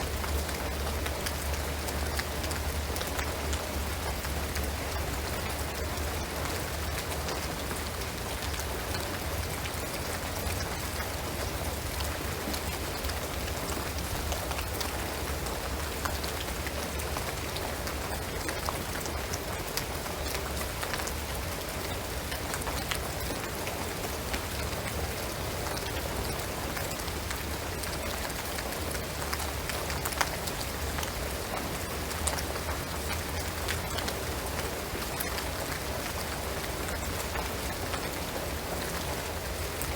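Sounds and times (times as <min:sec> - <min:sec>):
rain on roof and trees: 0:00.0 - 0:39.9.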